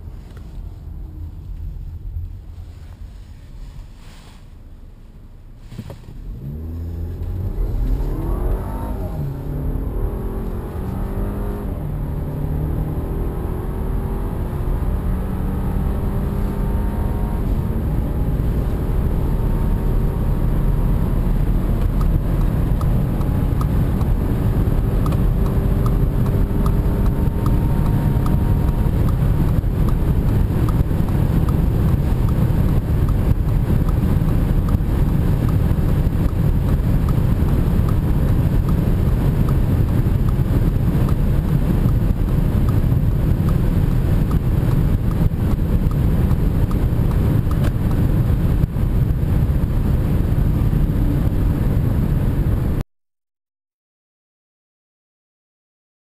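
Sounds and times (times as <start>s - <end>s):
wind and tyre roar: 0.0s - 52.8s
car engine under throttle: 4.7s - 52.8s.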